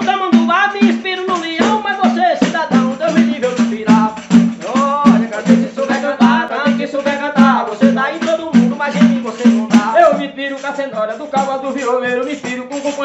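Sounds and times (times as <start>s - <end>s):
frame drums with jingles: 0.0s - 13.0s
man singing: 0.0s - 13.0s.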